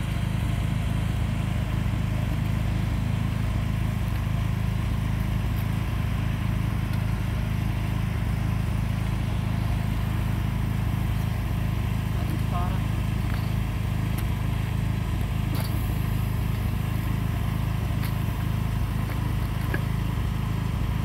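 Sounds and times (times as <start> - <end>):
engine running low hum: 0.0 - 21.0.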